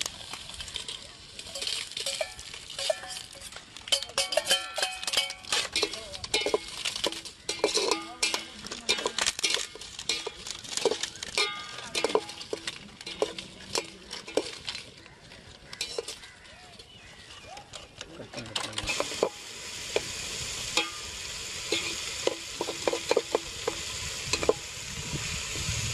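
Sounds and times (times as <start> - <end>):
metal spoon scraping a pot: 1.5 - 17.0, 18.5 - 20.0, 20.7 - 24.7.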